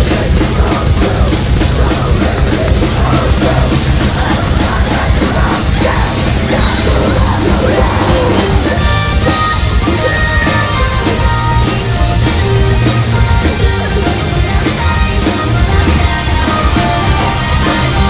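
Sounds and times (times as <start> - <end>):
drums: 0.0 - 18.0
electric guitar: 0.0 - 18.0
woman singing: 0.0 - 18.0.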